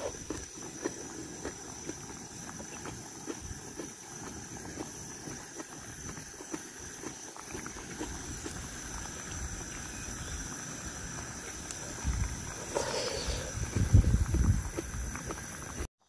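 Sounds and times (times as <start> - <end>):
gas camping stove rumbling: 0.0 - 15.9.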